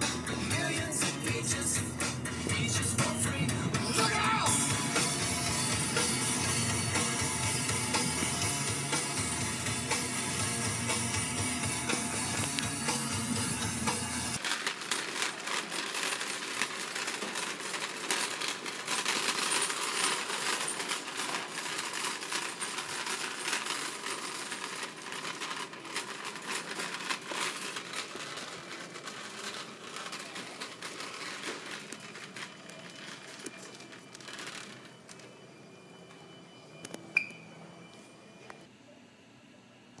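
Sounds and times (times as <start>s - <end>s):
cart wheels clattering: 0.0s - 35.3s
shopping cart rattling: 0.0s - 37.8s.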